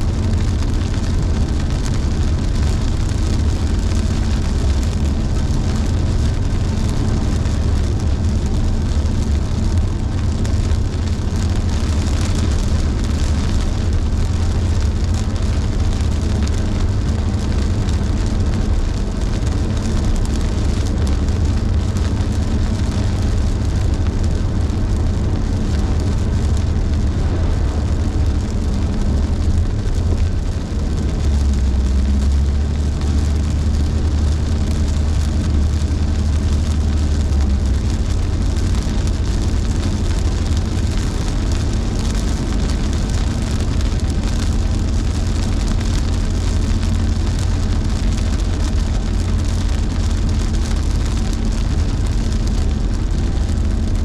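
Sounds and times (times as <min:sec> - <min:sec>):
car engine and road drone: 0:00.0 - 0:54.0
rain hiss: 0:00.0 - 0:54.0.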